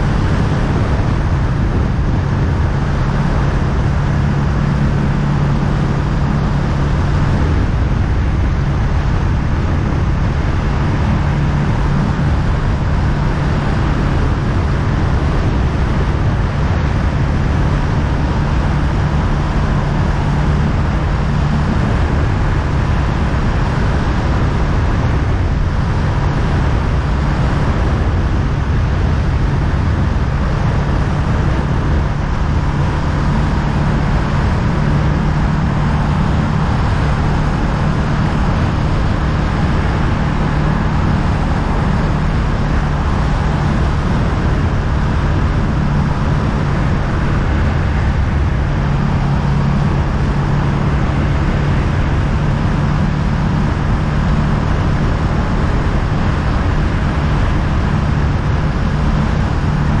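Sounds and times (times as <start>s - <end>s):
motorcycle engine running: 0.0s - 60.0s
wind and road noise: 0.0s - 60.0s.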